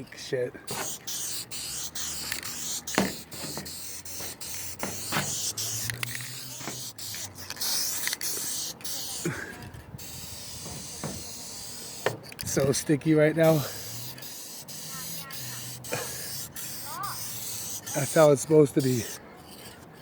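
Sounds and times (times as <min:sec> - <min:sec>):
spray can hissing: 0:00.7 - 0:19.8.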